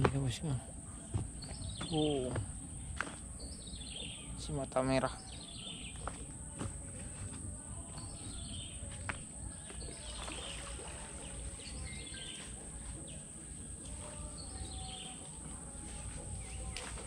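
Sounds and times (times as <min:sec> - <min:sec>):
birds giving falling calls: 0:00.5 - 0:06.3, 0:08.0 - 0:17.0.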